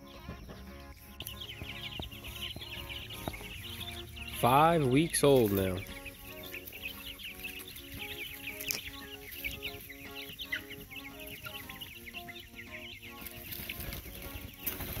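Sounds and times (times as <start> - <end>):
chicks peeping: 0.0 - 15.0
soft background music: 0.0 - 15.0.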